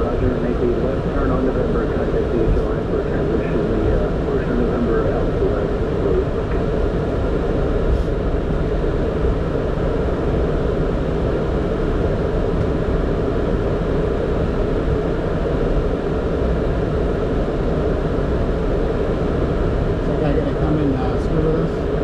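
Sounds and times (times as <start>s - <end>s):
jet engines idling rumble and hiss: 0.0s - 22.0s.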